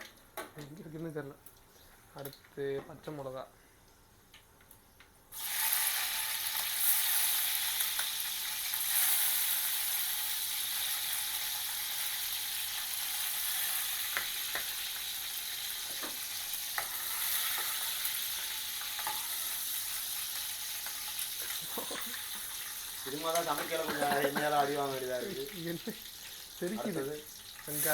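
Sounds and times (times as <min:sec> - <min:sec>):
chillies sizzling in hot oil: 0:05.3 - 0:27.9.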